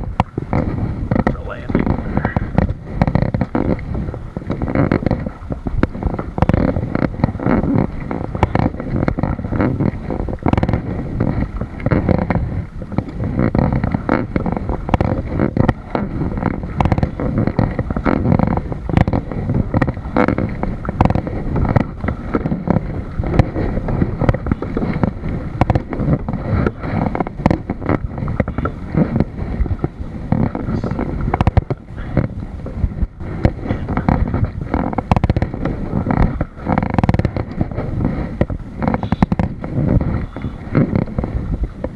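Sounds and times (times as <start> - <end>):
muffled wind rumble on microphone: 0.0 - 41.9.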